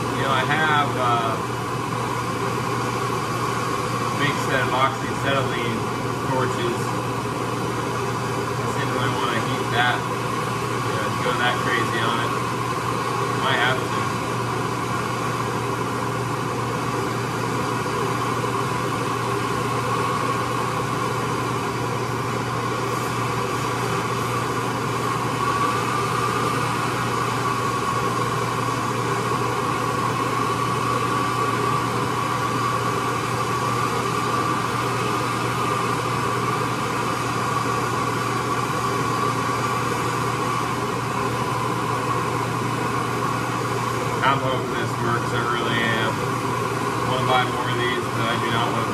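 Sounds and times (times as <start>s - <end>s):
propane torch hissing: 0.0s - 48.9s.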